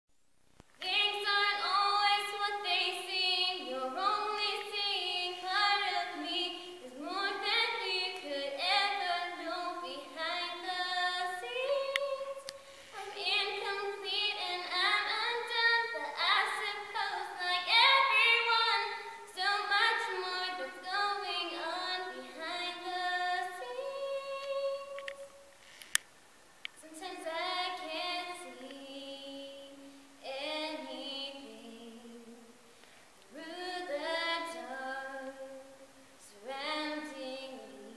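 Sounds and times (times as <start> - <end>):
girl singing a cappella: 0.8 - 25.5, 26.8 - 37.9.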